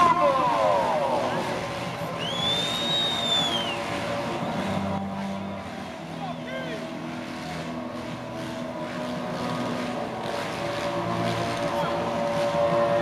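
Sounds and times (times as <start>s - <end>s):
motocross bike engines racing: 0.0s - 13.0s.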